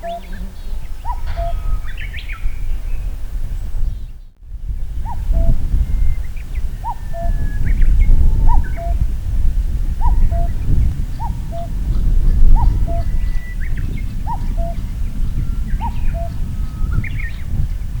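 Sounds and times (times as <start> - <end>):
cuckoo calling: 0.0 - 3.2, 4.9 - 18.0
low rumble: 0.0 - 18.0
small birds chirping: 0.0 - 18.0.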